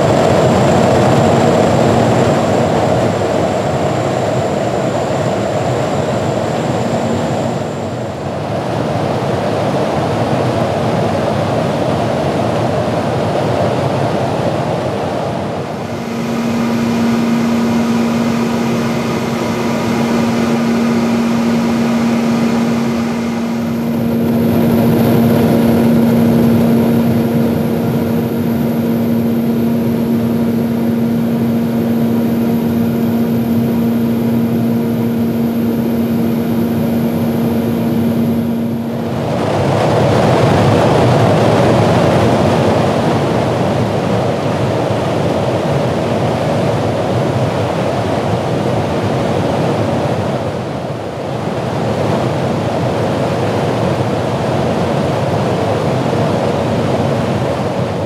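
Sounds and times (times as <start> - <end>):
aircraft engine low hum: 0.0 - 58.0
high engine whine: 0.0 - 58.0
rushing wind: 0.0 - 58.0.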